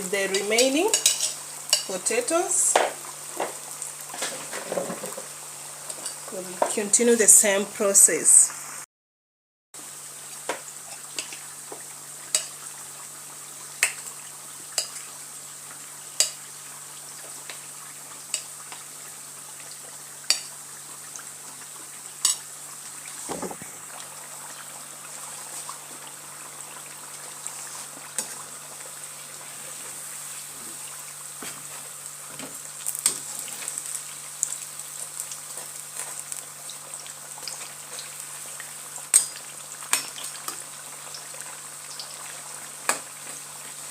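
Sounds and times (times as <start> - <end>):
potatoes sizzling in hot oil: 0.0 - 8.8, 9.8 - 43.9.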